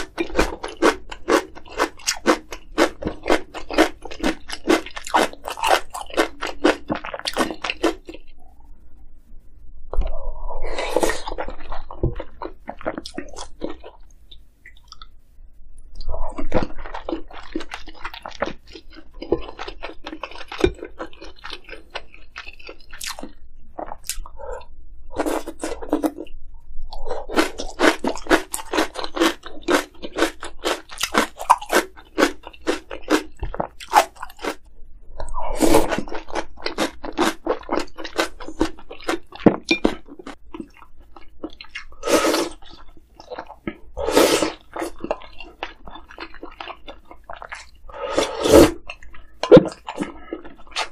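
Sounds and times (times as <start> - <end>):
crunchy chewing: 0.0 - 8.4, 16.3 - 34.7, 35.5 - 50.9.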